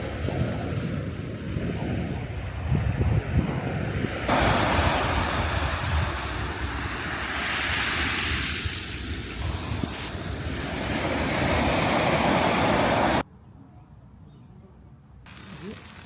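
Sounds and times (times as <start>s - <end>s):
waves breaking on sandy beach: 0.0s - 13.2s
wind buffeting microphone: 0.0s - 13.2s.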